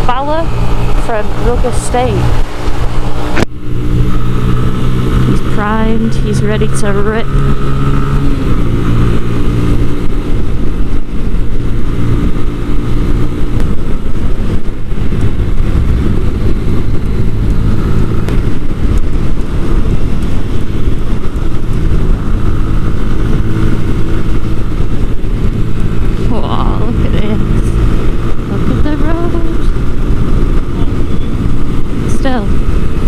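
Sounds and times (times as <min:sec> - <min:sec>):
motorcycle engine running: 0:00.0 - 0:33.0
wind and road rush: 0:00.0 - 0:33.0.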